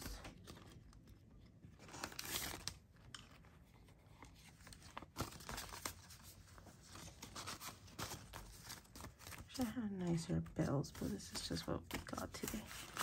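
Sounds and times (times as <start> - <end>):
banknotes and plastic rustling: 0.0 - 13.0.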